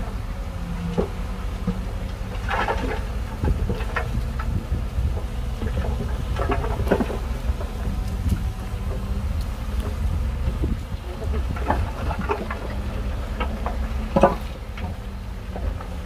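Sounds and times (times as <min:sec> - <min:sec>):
heavy diesel engines running: 0:00.0 - 0:16.0
rocks clattering from truck bed: 0:00.9 - 0:16.0.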